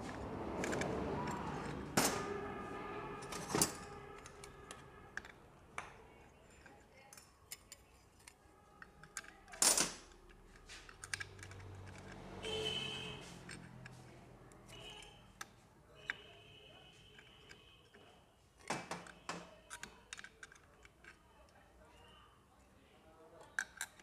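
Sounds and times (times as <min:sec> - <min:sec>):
metal parts and tools clinking: 0:00.0 - 0:16.3, 0:17.0 - 0:21.4, 0:23.4 - 0:24.0.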